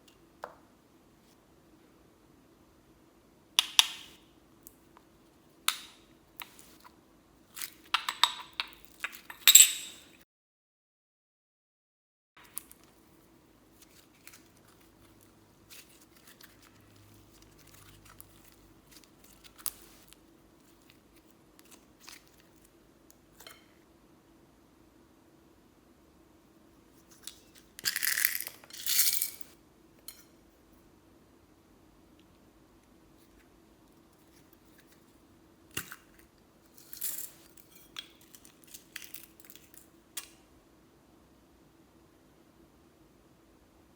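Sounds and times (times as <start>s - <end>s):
faint steady hum: 0.0s - 10.2s, 12.4s - 43.9s.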